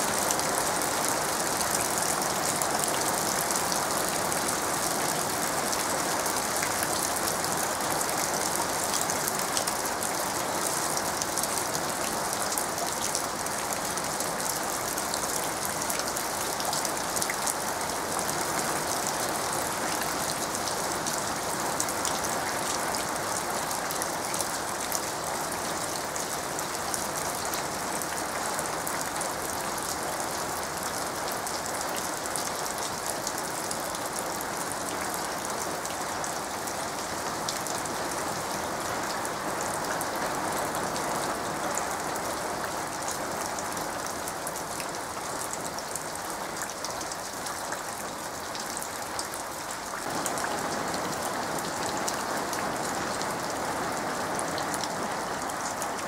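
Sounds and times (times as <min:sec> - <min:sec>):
rain on leaves: 0:00.0 - 0:56.0
rain pattering into puddle: 0:00.0 - 0:56.0.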